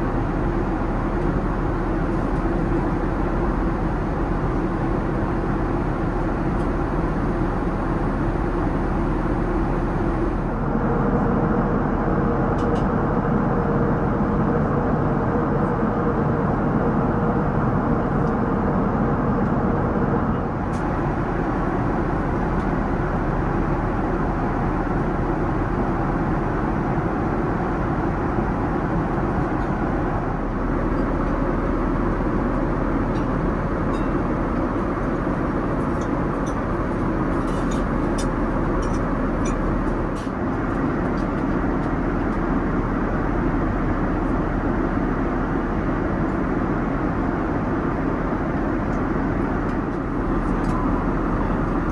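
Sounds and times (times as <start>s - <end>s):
airliner cabin noise: 0.0s - 25.1s, 26.1s - 51.9s.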